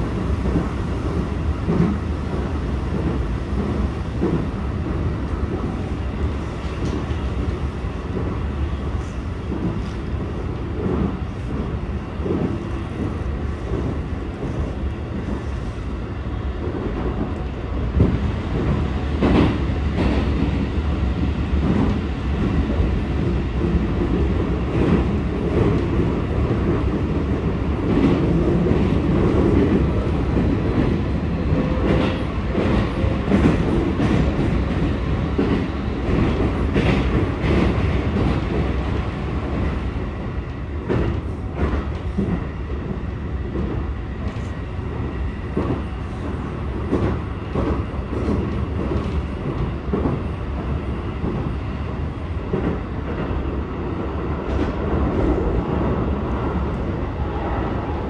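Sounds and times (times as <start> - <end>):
clacks from the track: 0.0 - 15.9, 16.6 - 53.6, 54.3 - 56.8
train wheels rumbling on rails: 0.0 - 58.0.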